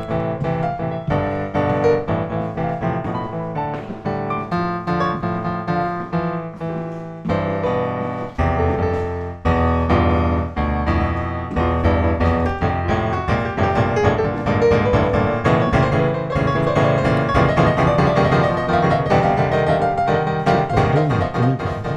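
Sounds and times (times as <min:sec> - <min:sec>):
piano music: 0:00.0 - 0:21.9.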